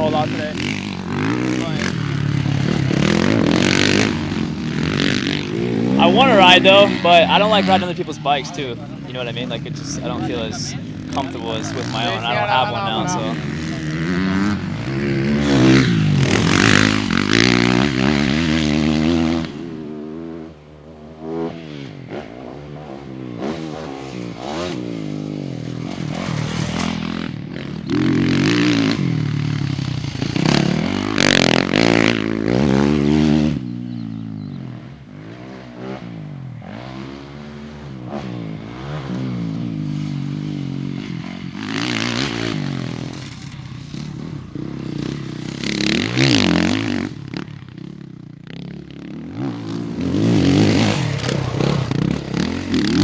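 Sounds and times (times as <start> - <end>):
motocross bikes revving: 0.0 - 53.0.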